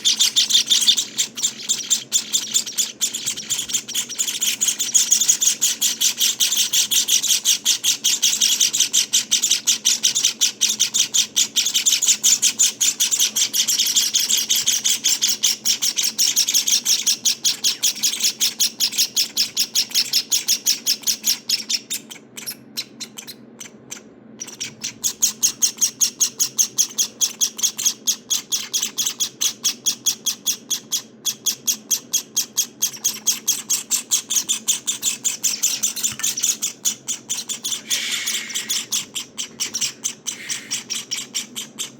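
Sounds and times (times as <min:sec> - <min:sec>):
nestlings chirping: 0:00.0 - 0:41.9.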